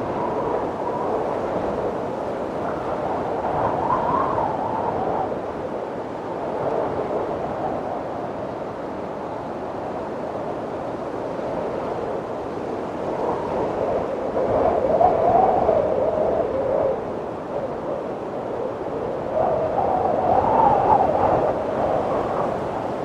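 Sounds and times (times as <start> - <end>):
wind howling: 0.0 - 10.2, 11.5 - 23.0.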